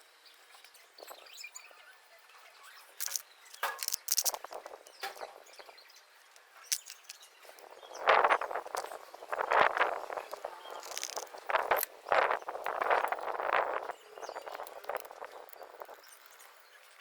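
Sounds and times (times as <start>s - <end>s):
faint background noise: 0.0s - 17.0s.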